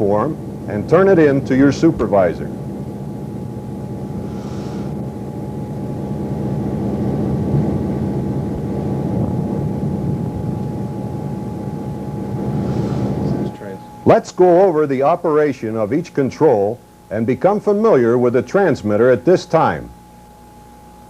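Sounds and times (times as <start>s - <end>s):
diesel locomotive engine running: 0.0s - 19.2s
soft hiss: 0.0s - 21.0s.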